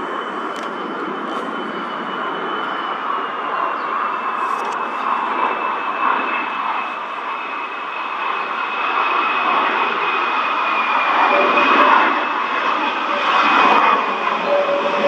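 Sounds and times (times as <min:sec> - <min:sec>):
jet engines flyover with high whine: 0:00.0 - 0:15.0.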